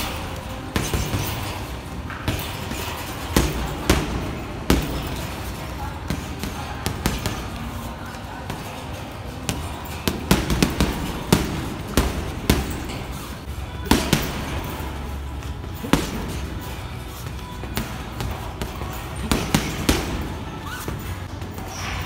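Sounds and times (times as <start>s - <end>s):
gloves punching heavy bag: 0.0s - 22.0s.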